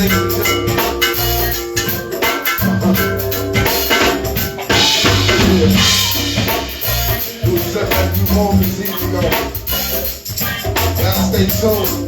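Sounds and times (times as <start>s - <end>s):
band music with drums and bass: 0.0s - 12.0s.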